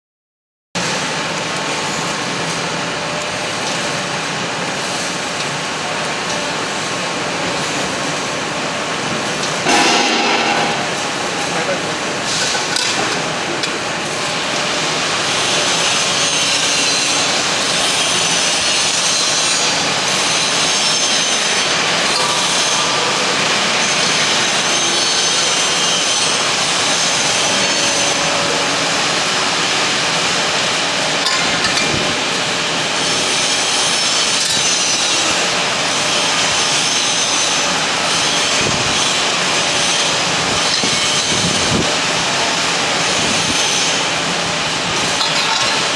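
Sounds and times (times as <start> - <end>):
press machine whirring roar: 0.8 - 45.9.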